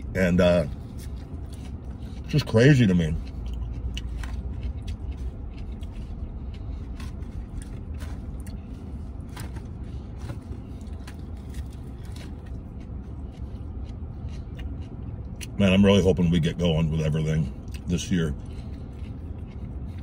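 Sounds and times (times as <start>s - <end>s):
vehicle cabin hum: 0.0s - 20.0s
chewing: 0.7s - 16.1s, 17.4s - 20.0s.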